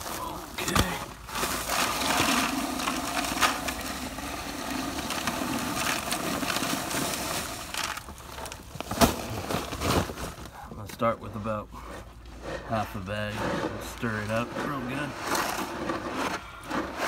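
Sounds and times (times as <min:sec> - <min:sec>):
dry concrete mix pouring: 0:00.0 - 0:10.4, 0:12.4 - 0:17.0.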